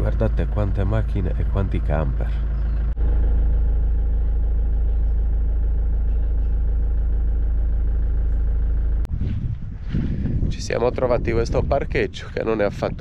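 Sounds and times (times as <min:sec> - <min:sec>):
engine idling low hum: 0:00.0 - 0:13.0.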